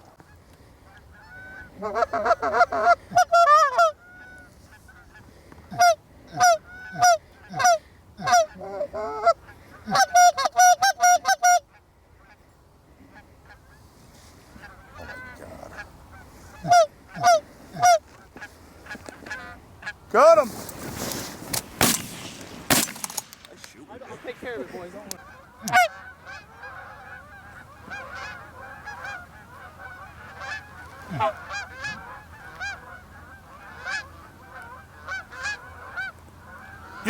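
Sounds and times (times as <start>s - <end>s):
geese honking: 0.1s - 12.4s, 13.1s - 20.4s, 21.8s - 37.0s.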